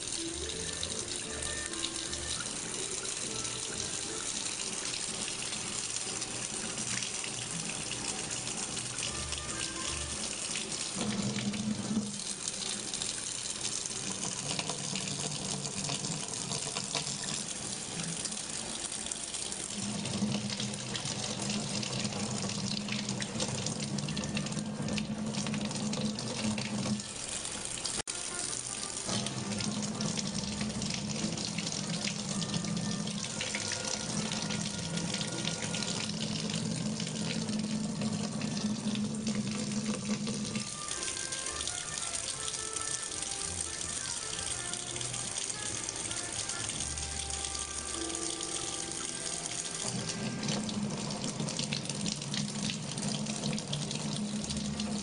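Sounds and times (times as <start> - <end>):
tap water running into sink: 0.0 - 55.0.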